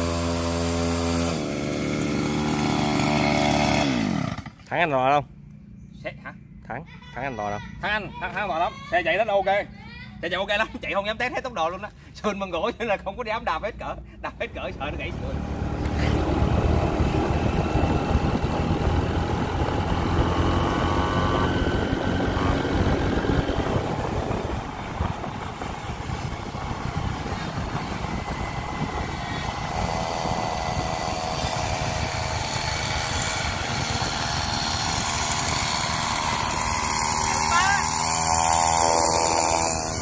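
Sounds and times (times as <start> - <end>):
motorcycle engines running: 0.0 - 6.7, 14.0 - 40.0
wind and road noise: 7.2 - 40.0.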